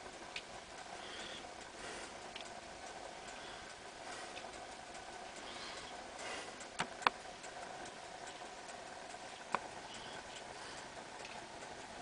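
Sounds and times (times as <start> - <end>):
mechanical clocks ticking: 0.0 - 12.0.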